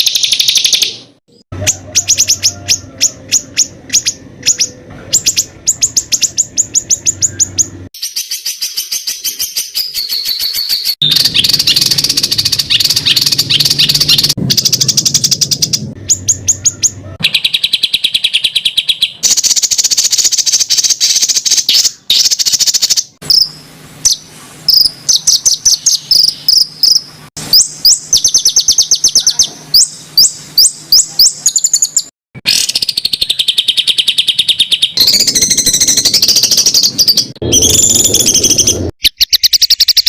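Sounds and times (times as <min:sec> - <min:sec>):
songbird sharp repeated calls: 0:00.0 - 0:40.0.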